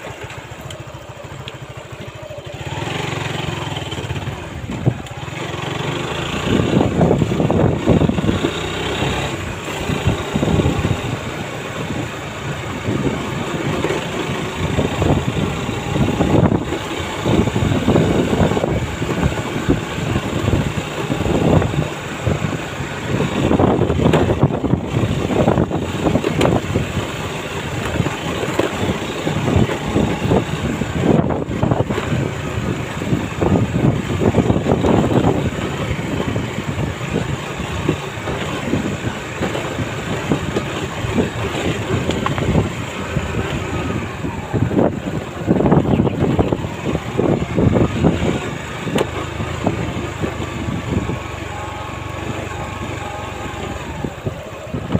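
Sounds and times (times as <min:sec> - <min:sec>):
vehicle engine running unevenly: 0:00.0 - 0:54.9
vehicle on dirt road: 0:00.0 - 0:54.9.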